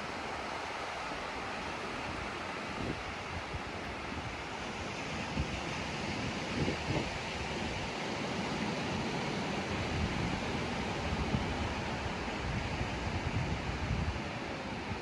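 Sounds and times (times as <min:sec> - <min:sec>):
ocean surf on a beach: 0:00.0 - 0:15.0
wind buffeting microphone: 0:01.1 - 0:08.0, 0:09.6 - 0:15.0.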